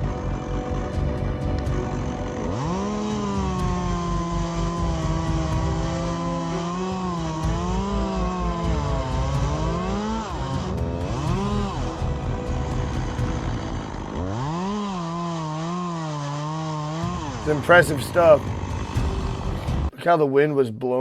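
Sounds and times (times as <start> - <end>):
chainsaw revving and cutting: 0.0 - 19.9.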